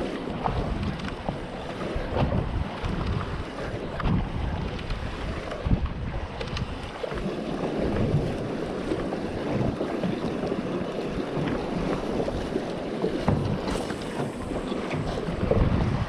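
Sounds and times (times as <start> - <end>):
water lapping against boat: 0.0 - 16.0
wind buffeting microphone: 0.0 - 16.0.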